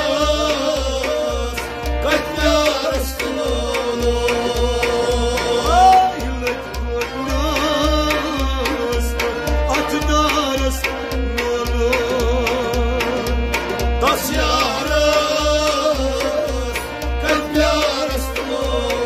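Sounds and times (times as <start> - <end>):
hand drum beat: 0.0 - 19.0
man singing with vibrato: 0.0 - 19.0
sustained accompaniment: 0.0 - 19.0.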